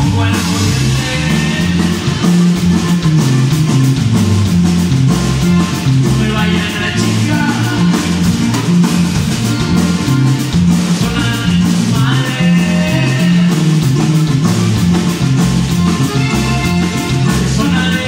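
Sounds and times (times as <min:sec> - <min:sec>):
accordion: 0:00.0 - 0:18.0
acoustic guitar: 0:00.0 - 0:18.0
congas: 0:00.0 - 0:18.0
drum kit: 0:00.0 - 0:18.0
stepping bass line: 0:00.0 - 0:18.0.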